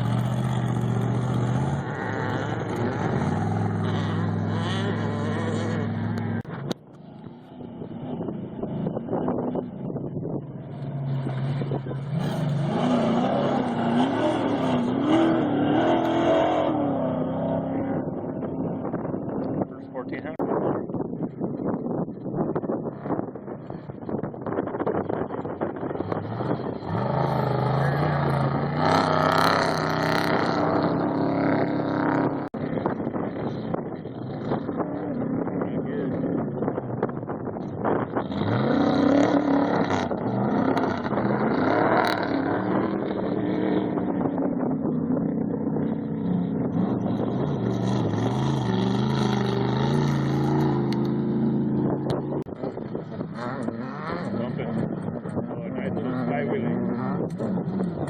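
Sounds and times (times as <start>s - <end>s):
race vehicle engine revving: 0.0s - 20.9s, 22.8s - 58.0s
wind buffeting microphone: 0.0s - 58.0s.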